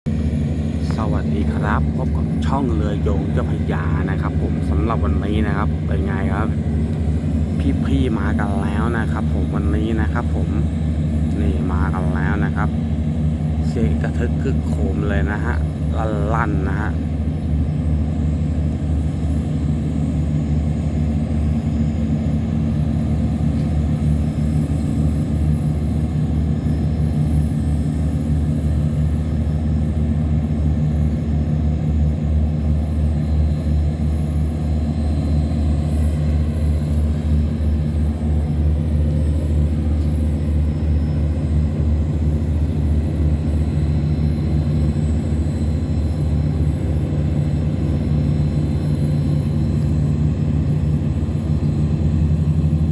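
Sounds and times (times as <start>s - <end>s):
tugboat diesel engine drone: 0.1s - 52.9s.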